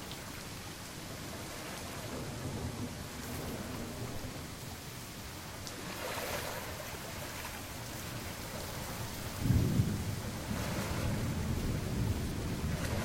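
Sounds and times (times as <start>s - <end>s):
steady rain falling: 0.0s - 13.0s
thunder rumbling: 1.4s - 13.0s.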